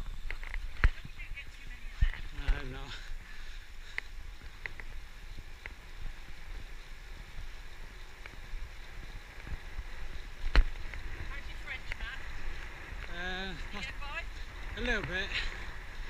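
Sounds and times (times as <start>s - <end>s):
road rumble: 0.0s - 16.0s
wind buffeting: 0.0s - 16.0s.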